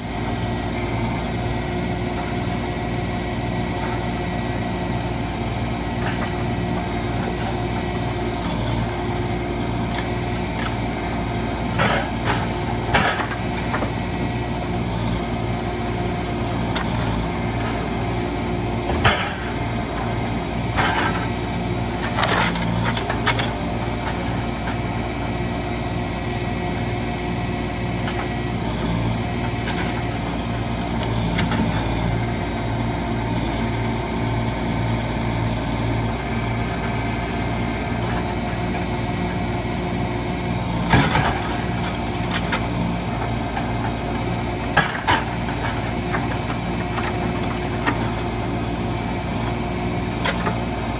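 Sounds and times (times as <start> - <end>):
machinery engine running: 0.0 - 50.9.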